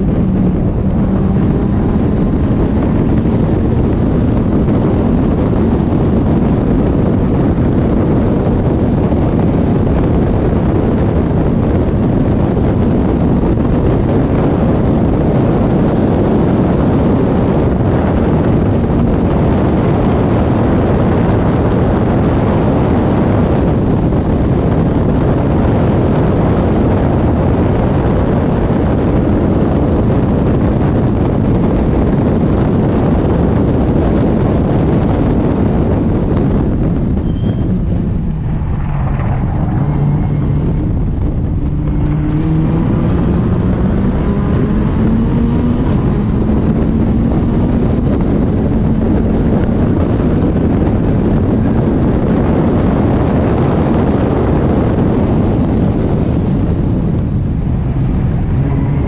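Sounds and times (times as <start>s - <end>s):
racing car engine running hard: 0.0s - 59.0s
wind rushing over microphone: 0.0s - 59.0s.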